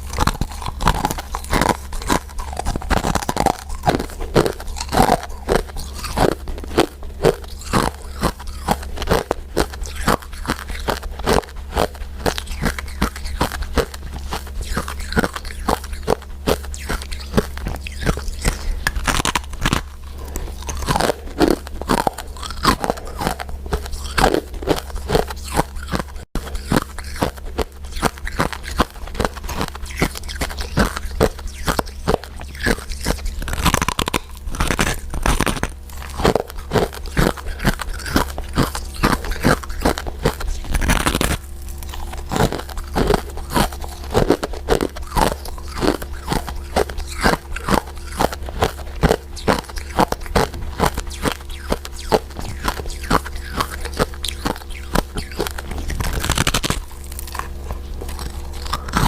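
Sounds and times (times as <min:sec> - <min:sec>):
chewing crunchy candies: 0:00.0 - 0:59.0.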